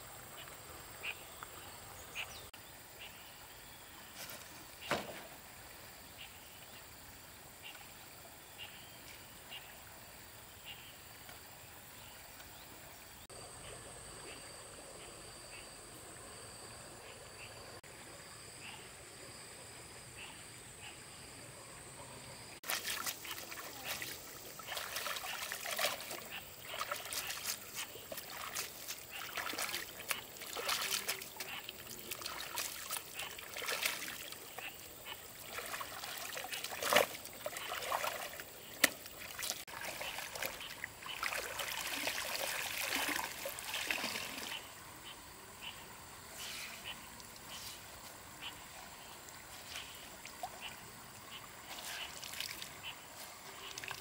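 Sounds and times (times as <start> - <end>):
water splashing and trickling: 0.0 - 13.4, 22.6 - 54.0.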